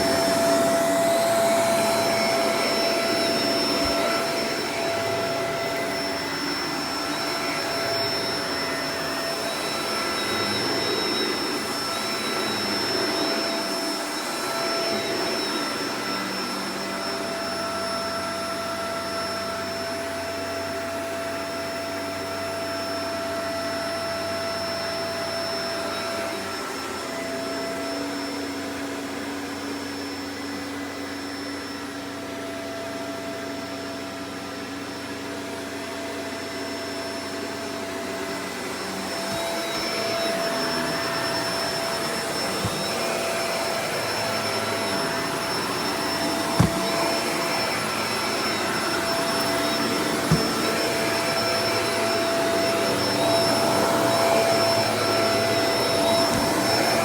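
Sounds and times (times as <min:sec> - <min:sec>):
vacuum cleaner motor whine: 0:00.0 - 0:57.0.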